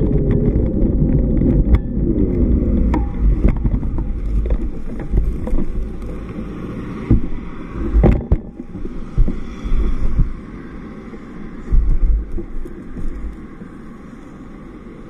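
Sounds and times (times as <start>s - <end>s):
road traffic passing: 0.0s - 15.0s
wind on microphone: 0.0s - 15.0s.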